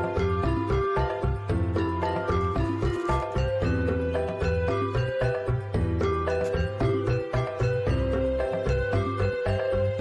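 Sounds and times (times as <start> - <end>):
background music with pulsing bass: 0.0 - 10.0.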